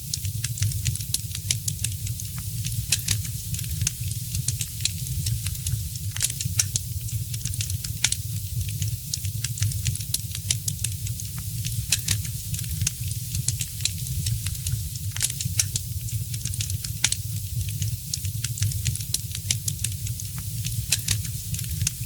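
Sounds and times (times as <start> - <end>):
wood fire crackling: 0.1 - 22.0.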